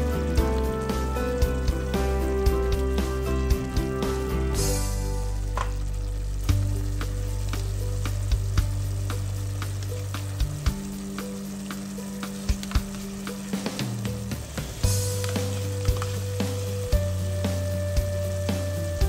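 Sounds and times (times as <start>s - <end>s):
sauce sizzling and bubbling in a pot: 0.0s - 19.0s.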